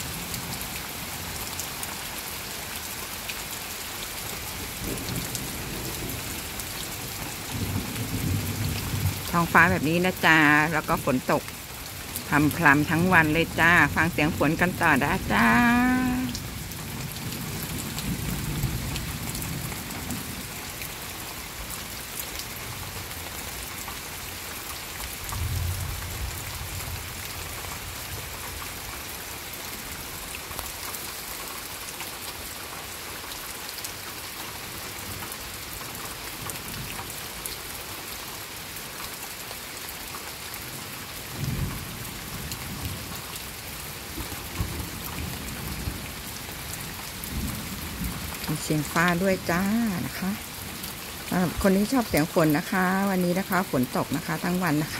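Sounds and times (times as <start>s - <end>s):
light rain on trees: 0.0s - 54.9s.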